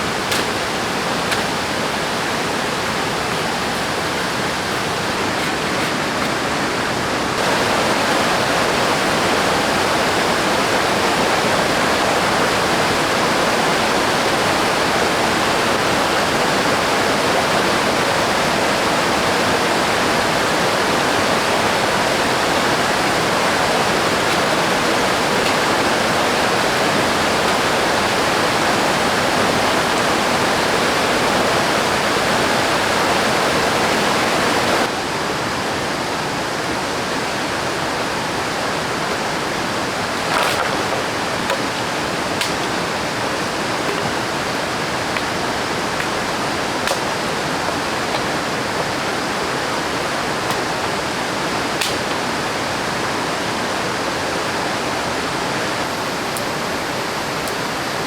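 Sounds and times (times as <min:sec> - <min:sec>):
river water rushing: 0:00.0 - 0:55.8.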